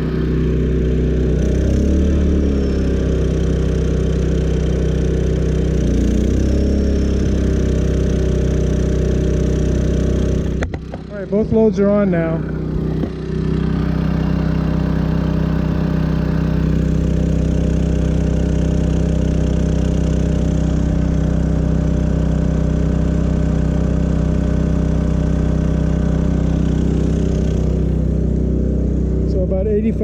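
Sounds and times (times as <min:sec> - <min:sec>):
generator running under load: 0:00.0 - 0:30.0.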